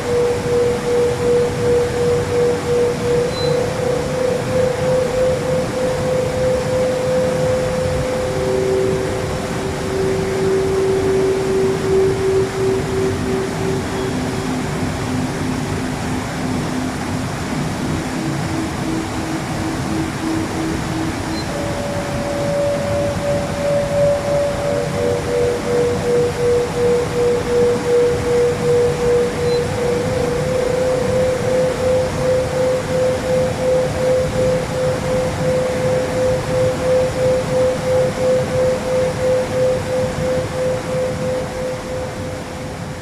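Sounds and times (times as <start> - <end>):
long held euphone tones: 0.0 - 43.0
waterfall rushing: 0.0 - 43.0.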